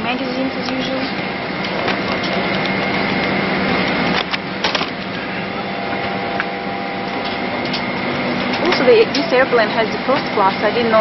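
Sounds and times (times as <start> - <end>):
cabin air-conditioning hum and hiss: 0.0 - 11.0.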